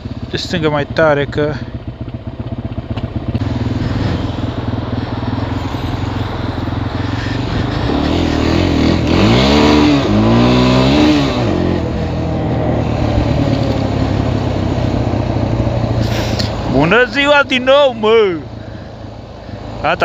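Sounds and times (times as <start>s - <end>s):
quad bike engine revving: 0.0s - 18.8s.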